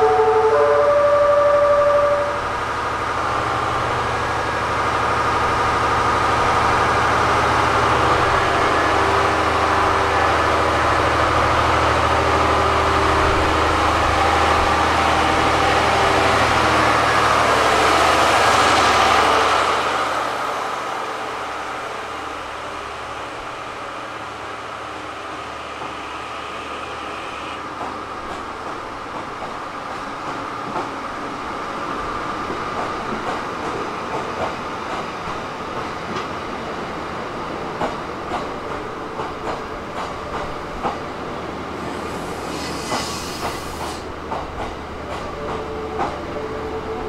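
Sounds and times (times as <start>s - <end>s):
hiss of passing train cars: 0.0s - 47.0s
low train engine drone: 0.0s - 47.0s.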